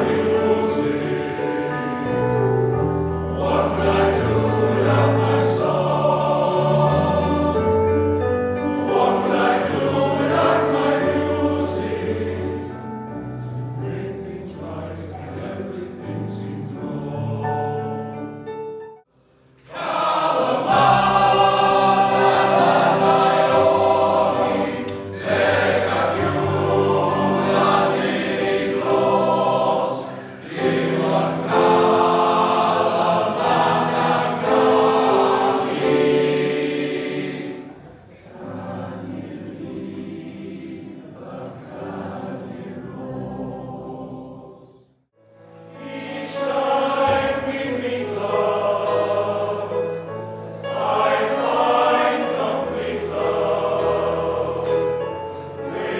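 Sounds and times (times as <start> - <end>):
male choir singing in harmony: 0.0 - 18.6, 19.6 - 55.9.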